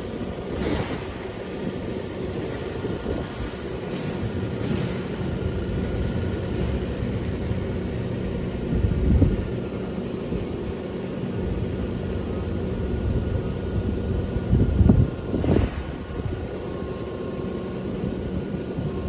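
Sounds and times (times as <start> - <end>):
road noise: 0.0 - 19.0
truck engine rumble: 0.0 - 19.0.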